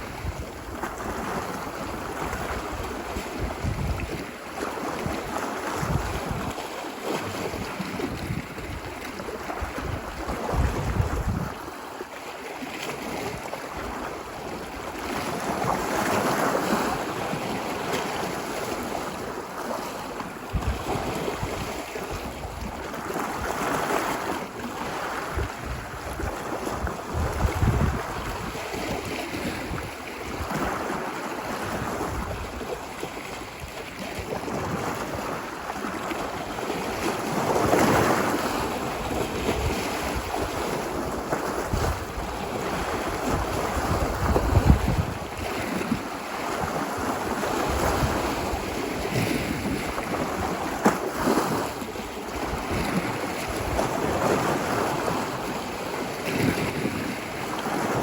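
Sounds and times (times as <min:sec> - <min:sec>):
wind buffeting microphone: 0:00.0 - 0:06.6, 0:07.2 - 0:11.8, 0:20.5 - 0:58.0
ocean waves breaking: 0:00.0 - 0:58.0.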